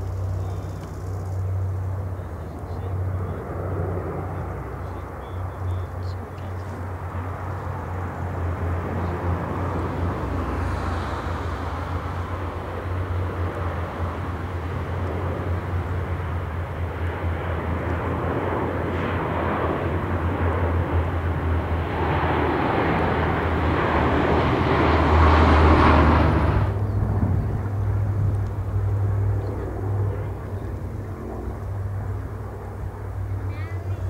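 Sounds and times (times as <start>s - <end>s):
aircraft engines droning: 0.0s - 34.0s.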